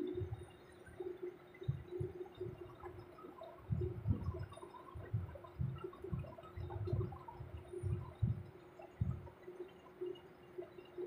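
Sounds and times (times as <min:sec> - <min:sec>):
faint steady hum: 0:00.0 - 0:11.0
oil bubbling and popping: 0:00.3 - 0:10.0.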